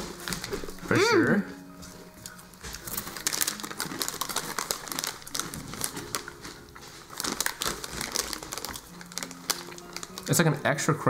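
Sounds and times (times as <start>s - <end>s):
crunchy snacks being chewed: 0.0s - 1.0s, 1.9s - 10.6s.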